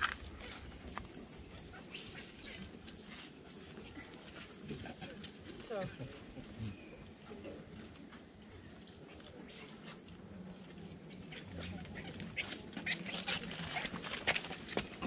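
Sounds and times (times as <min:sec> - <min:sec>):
monkeys chirping: 0:00.0 - 0:15.0.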